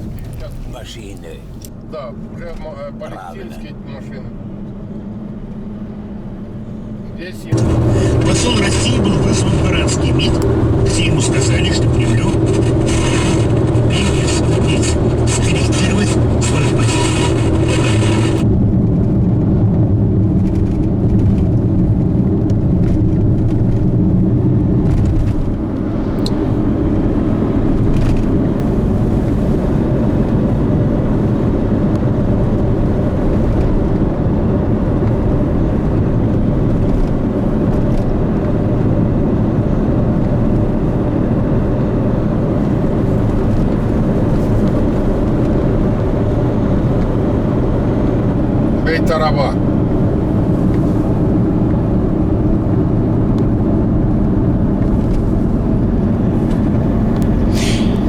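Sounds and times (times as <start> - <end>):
car driving at highway speed: 0.0 - 58.0.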